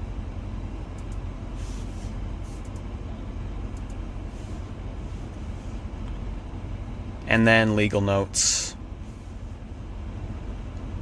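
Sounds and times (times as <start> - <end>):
car engine idling in cabin: 0.0 - 11.0.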